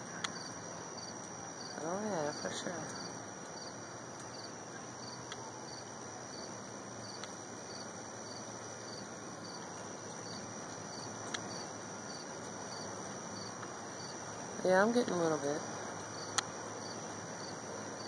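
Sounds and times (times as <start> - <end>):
cricket chirping: 0.0 - 18.0
steady hiss: 0.0 - 18.0.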